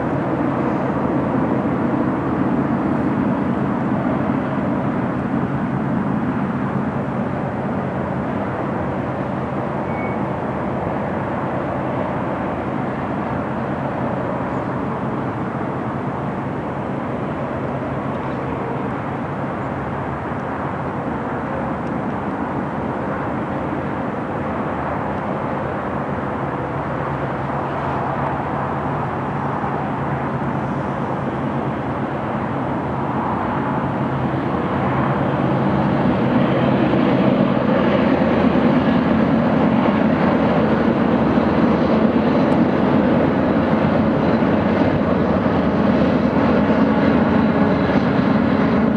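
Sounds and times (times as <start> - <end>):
constant low hum: 0.0 - 48.9
train wheels on rails: 0.0 - 48.9.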